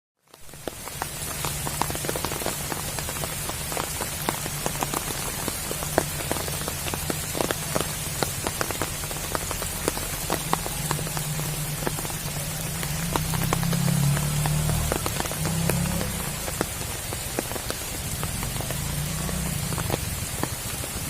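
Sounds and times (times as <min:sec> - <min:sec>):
rain falling on water: 0:00.2 - 0:21.0.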